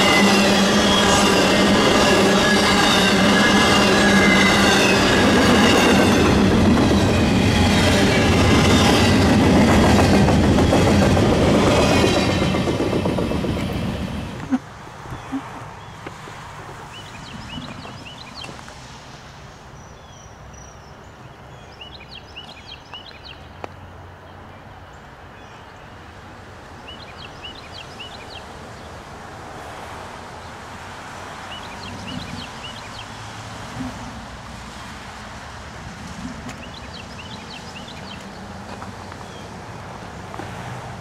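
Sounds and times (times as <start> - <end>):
outdoor background noise: 0.0 - 41.0.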